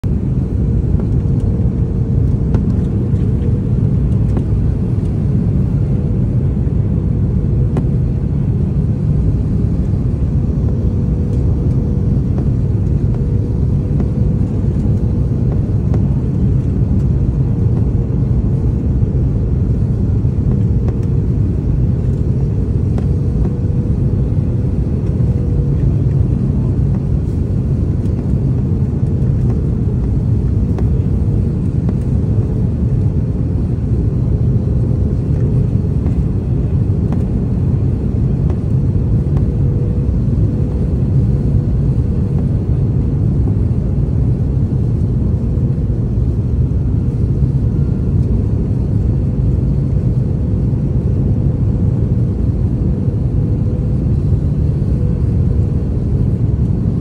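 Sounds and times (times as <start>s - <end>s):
faint hum: 0.0s - 57.0s.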